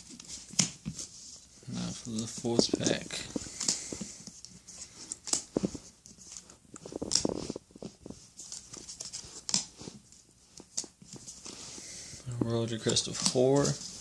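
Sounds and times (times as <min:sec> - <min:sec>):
cards rustling: 0:00.0 - 0:14.0.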